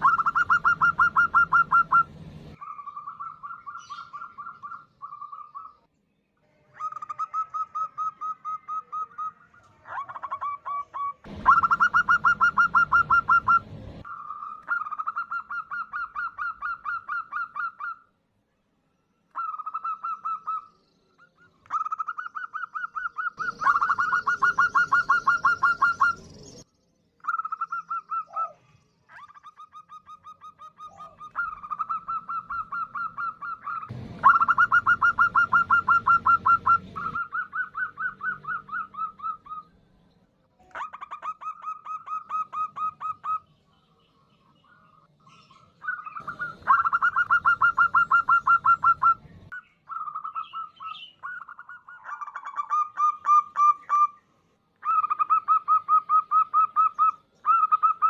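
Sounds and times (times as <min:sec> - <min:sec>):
dove calling in pulsed bursts: 0:00.0 - 0:05.9, 0:06.8 - 0:18.1, 0:19.3 - 0:26.4, 0:27.2 - 0:39.8, 0:40.7 - 0:43.5, 0:45.0 - 0:54.2, 0:54.8 - 0:58.0.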